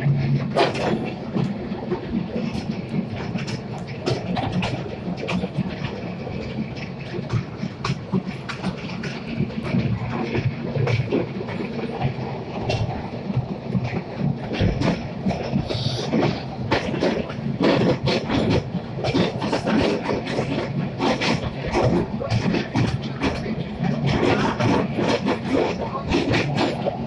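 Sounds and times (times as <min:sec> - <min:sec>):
carriages rumbling: 0:00.0 - 0:27.0
wheels clacking on track: 0:00.0 - 0:27.0.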